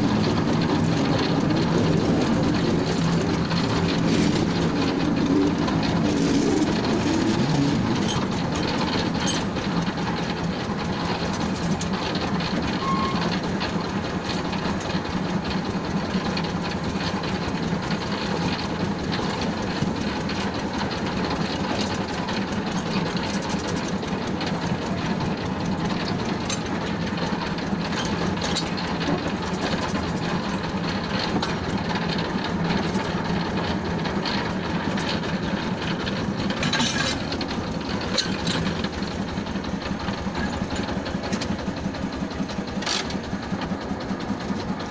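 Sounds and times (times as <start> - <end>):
engine drone: 0.0 - 44.9
wheels clicking and rattling on track: 0.0 - 44.9.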